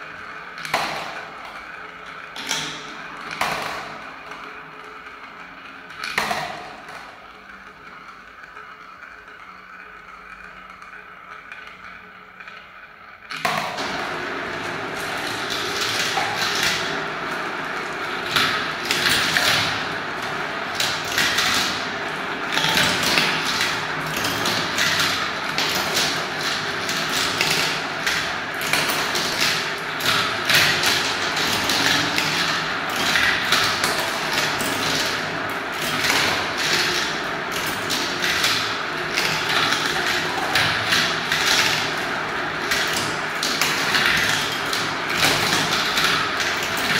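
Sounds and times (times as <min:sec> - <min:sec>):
marbles rolling and clacking in a marble run: 0:00.0 - 0:46.9.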